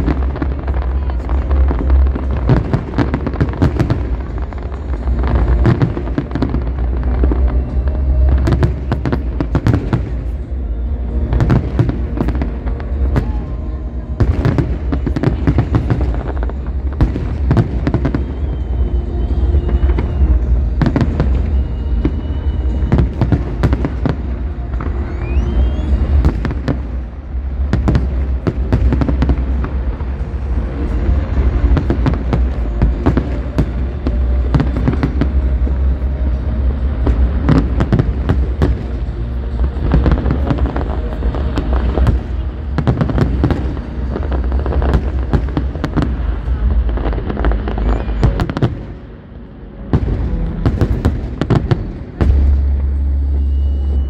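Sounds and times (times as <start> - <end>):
fireworks bangs and crackles: 0.0 - 54.0
low rumble: 0.0 - 54.0
music: 0.0 - 54.0.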